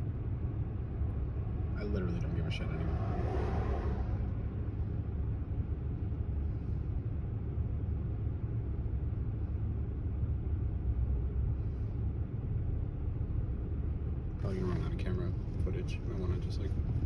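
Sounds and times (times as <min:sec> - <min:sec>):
car engine and tyres rumble inside cabin: 0:00.0 - 0:17.0.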